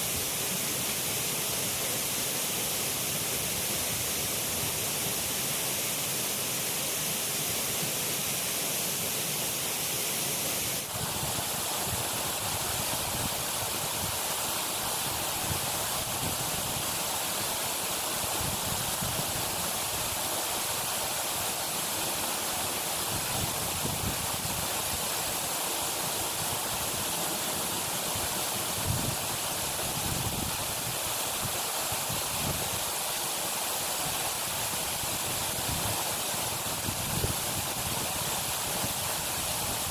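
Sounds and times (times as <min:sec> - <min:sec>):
steady hiss of water: 0:00.0 - 0:39.9.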